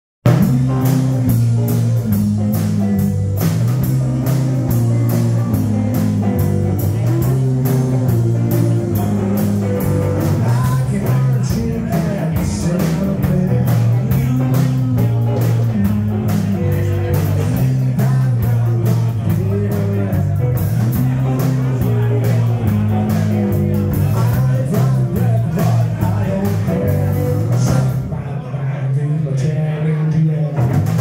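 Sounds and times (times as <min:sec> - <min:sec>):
steady drum beat: 0:00.2 - 0:28.3, 0:30.6 - 0:31.0
repeating bass line: 0:00.3 - 0:28.3
electric guitar: 0:00.3 - 0:28.8.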